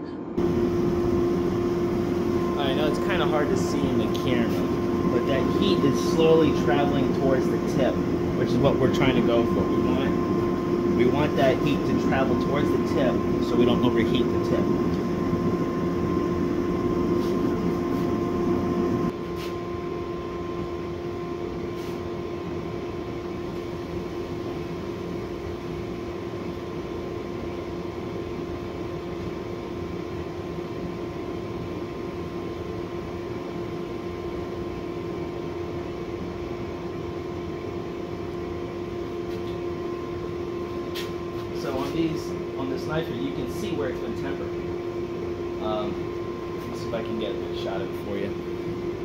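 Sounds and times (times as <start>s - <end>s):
gas forge burner roaring: 0.4s - 49.0s.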